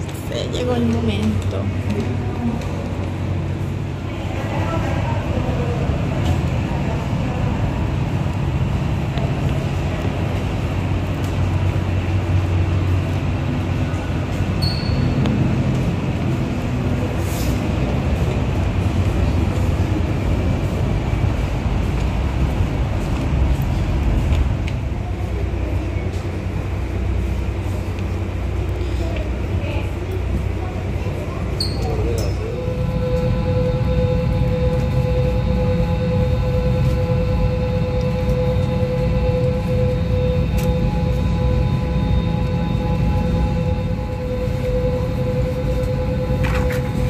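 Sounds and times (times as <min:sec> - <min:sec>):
aircraft and machinery droning hum: 0:00.0 - 0:47.0.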